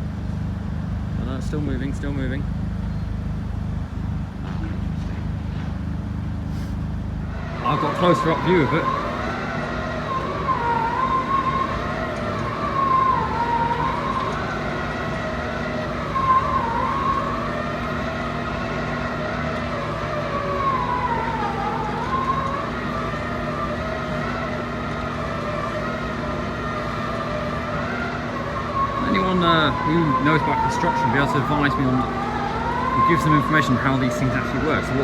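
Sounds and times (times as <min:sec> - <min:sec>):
diesel engine hum: 0:00.0 - 0:35.0
high wavering machine whine: 0:00.0 - 0:35.0.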